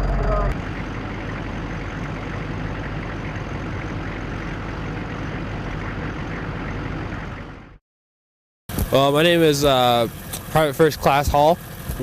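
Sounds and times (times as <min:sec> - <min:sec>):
vehicle engine idling: 0:00.0 - 0:07.8, 0:08.7 - 0:12.0.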